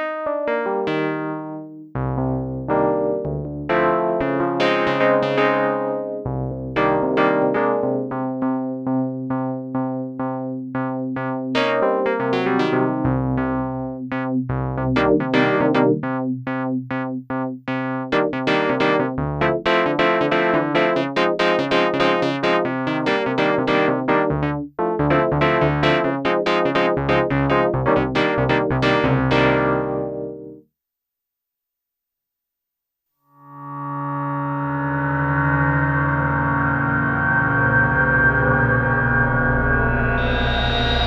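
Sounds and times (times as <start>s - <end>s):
synthesizer notes and chords: 0.0s - 30.6s, 33.4s - 41.0s
synth bass line: 2.0s - 17.4s, 18.1s - 30.6s, 33.4s - 41.0s.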